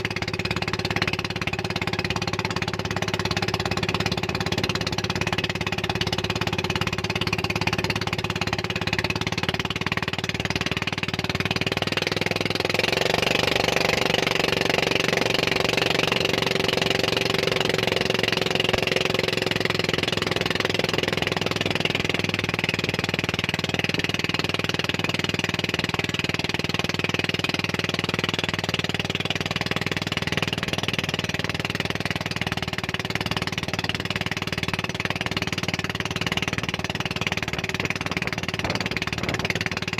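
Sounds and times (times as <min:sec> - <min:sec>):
higher engine tone: 0:00.0 - 0:24.2, 0:27.2 - 0:39.9
motorboat engine running: 0:00.0 - 0:39.9.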